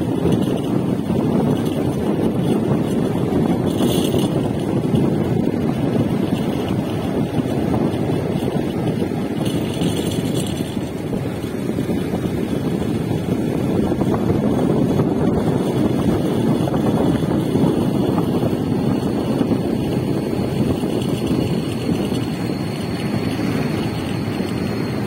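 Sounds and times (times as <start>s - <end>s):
motorcycle road noise: 0.0s - 25.0s
wind rushing over microphone: 0.0s - 25.0s.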